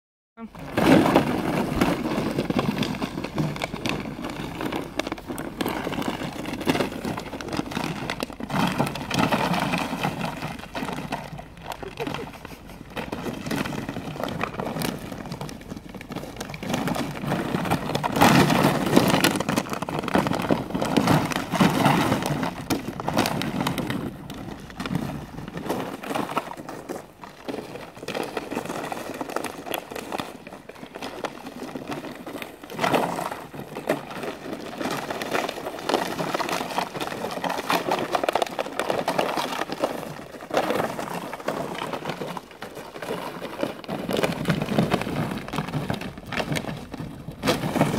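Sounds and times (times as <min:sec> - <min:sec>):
plastic bottle scraping over snow: 0:00.6 - 0:47.9.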